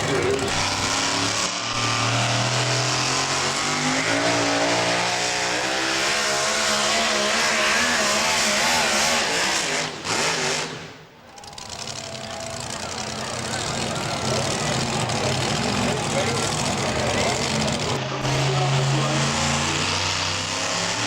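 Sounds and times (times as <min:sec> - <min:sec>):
truck engine at high revs: 0:00.0 - 0:21.0.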